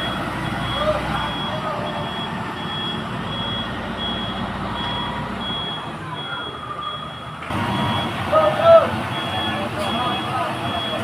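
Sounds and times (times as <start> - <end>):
engine rumble: 0.0 - 11.0
reversing alarm beeps: 0.0 - 11.0.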